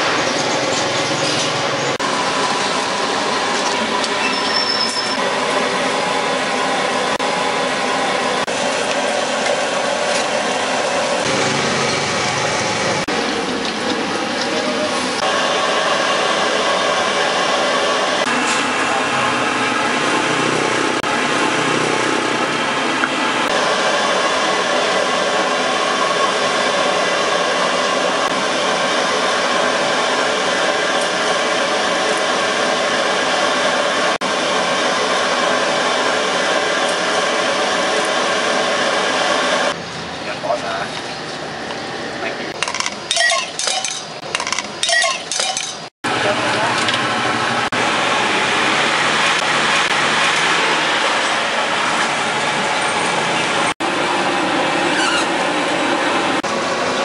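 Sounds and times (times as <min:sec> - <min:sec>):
gas burner roaring hiss: 0:00.0 - 0:42.6, 0:46.0 - 0:57.0.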